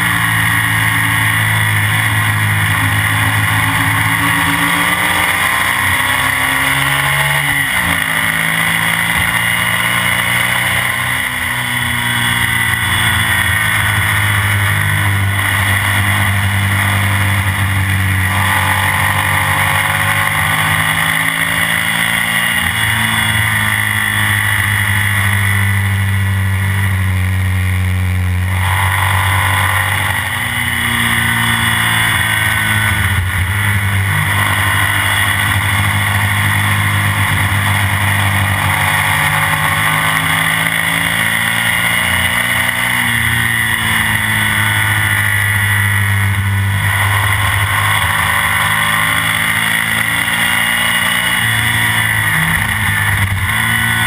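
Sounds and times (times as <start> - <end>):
racing engine at high revs: 0.0 - 54.0
wind and road noise: 0.0 - 54.0.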